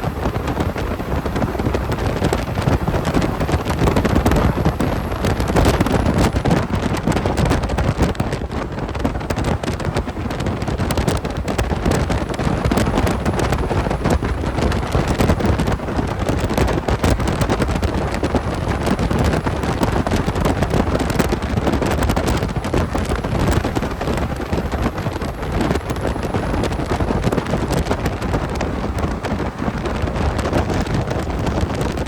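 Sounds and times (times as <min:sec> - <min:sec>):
truck engine rumble: 0:00.0 - 0:32.0
wind buffeting microphone: 0:00.0 - 0:32.0.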